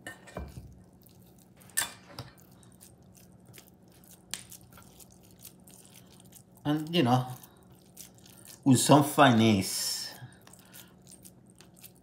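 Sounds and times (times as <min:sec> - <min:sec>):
hands squelching raw meat: 0:02.4 - 0:12.0.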